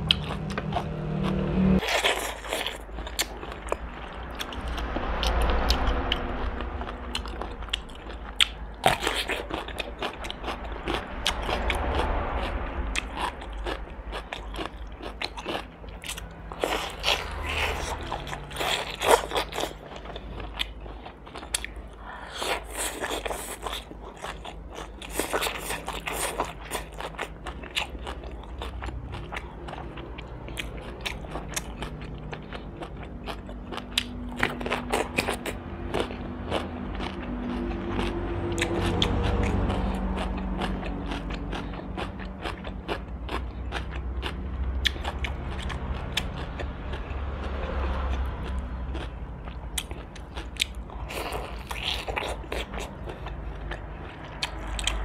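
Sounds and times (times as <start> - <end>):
roast duck being chewed: 0.0 - 4.6, 13.0 - 55.0.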